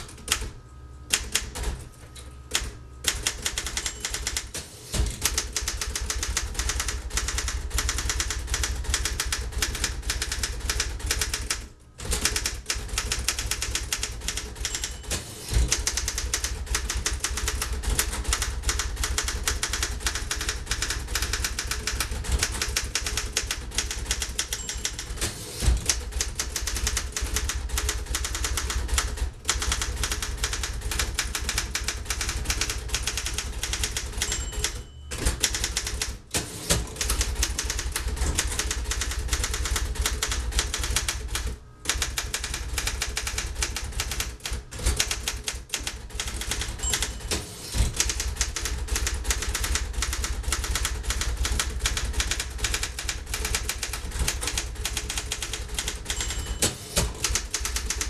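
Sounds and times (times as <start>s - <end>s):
manual typewriter typing: 0.0s - 0.5s, 1.1s - 1.9s, 2.5s - 58.0s.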